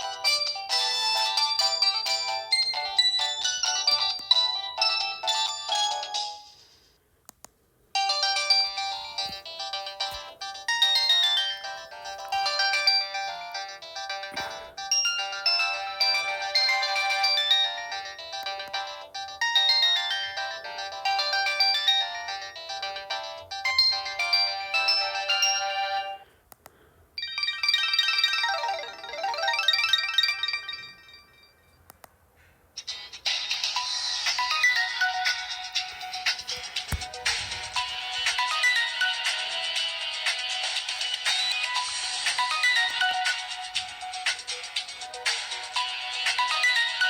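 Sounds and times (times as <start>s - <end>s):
electronic ringtone melodies: 0.0s - 6.9s, 8.0s - 26.3s, 27.2s - 31.8s, 32.8s - 47.0s.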